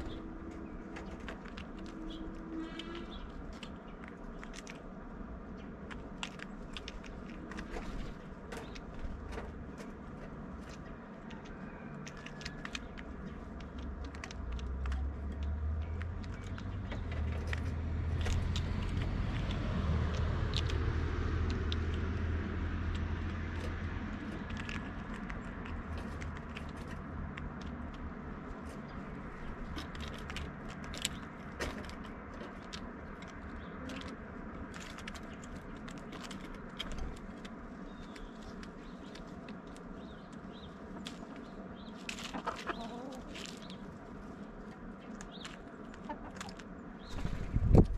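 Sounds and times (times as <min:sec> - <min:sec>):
bird pecking at seeds: 0:00.0 - 0:47.9
low vehicle rumble: 0:00.0 - 0:47.9.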